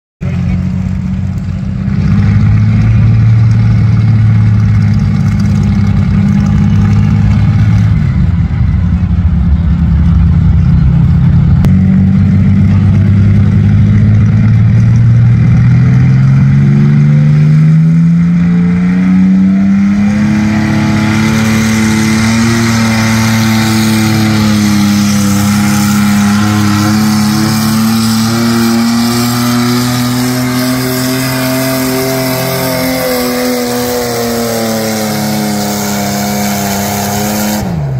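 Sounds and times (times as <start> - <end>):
tractor engine roaring: 0.2 - 37.9.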